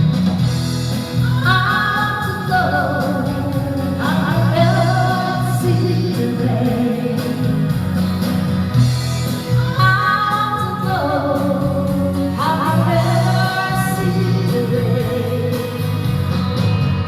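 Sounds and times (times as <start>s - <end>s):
backing track with guitar: 0.0s - 17.0s
person singing karaoke: 0.0s - 17.0s.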